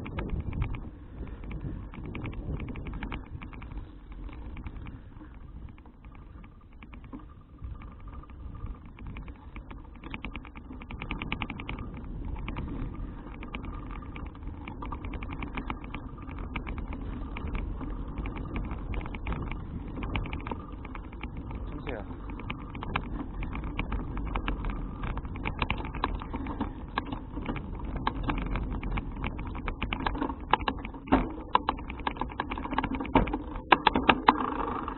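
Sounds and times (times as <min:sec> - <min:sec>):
light clicks and rattles: 0:00.0 - 0:34.9
wind and tyres rumbling: 0:00.0 - 0:34.9.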